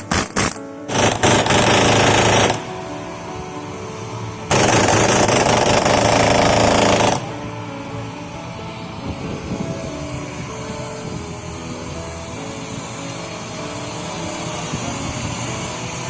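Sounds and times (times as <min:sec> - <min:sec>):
pneumatic gun hammering: 0:00.0 - 0:08.4, 0:10.6 - 0:16.0.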